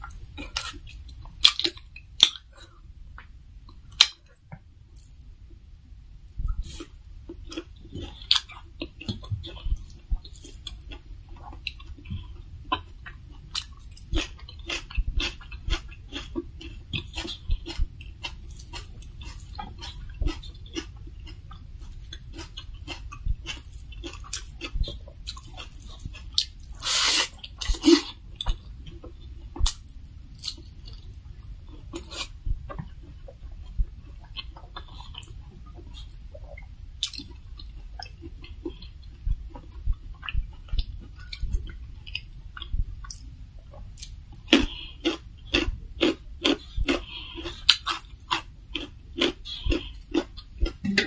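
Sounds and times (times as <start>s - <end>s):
person chewing food: 0.0s - 5.3s, 6.4s - 51.0s.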